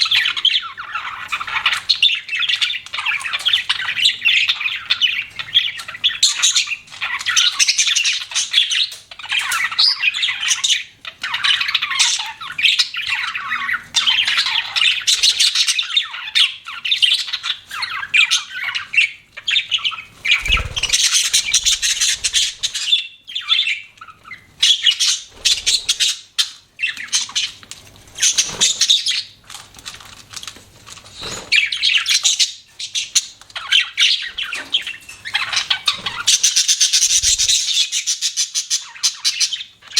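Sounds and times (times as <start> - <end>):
budgerigars chirping: 0.0 - 29.4, 31.0 - 39.9.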